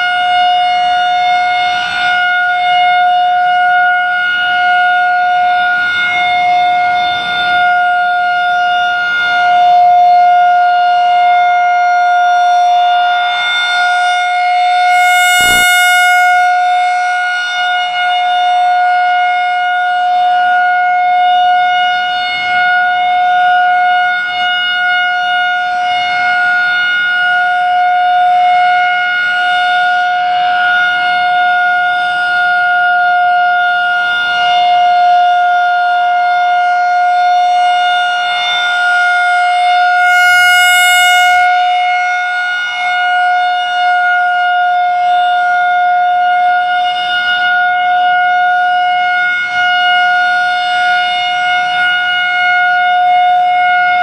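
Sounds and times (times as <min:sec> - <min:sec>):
rotating siren steady tone: 0:00.0 - 0:54.0.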